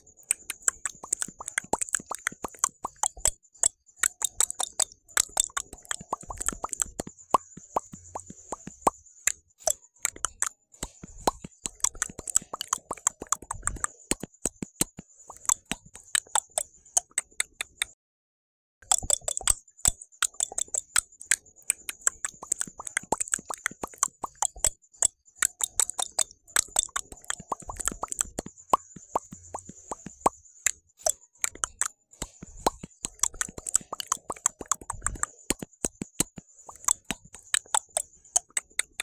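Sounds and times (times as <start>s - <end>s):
mouth clicks and pops: 0.0s - 18.0s, 18.8s - 39.0s.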